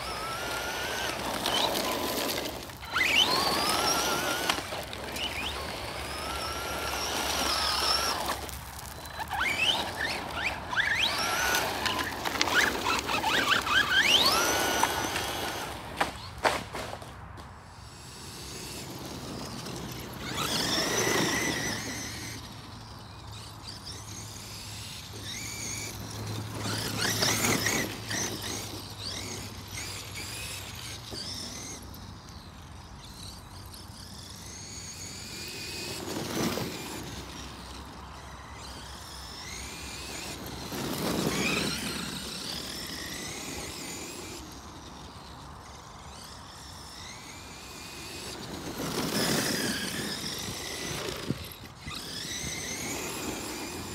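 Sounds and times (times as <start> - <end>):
electric motor whining: 0.0 - 16.4, 17.8 - 53.9.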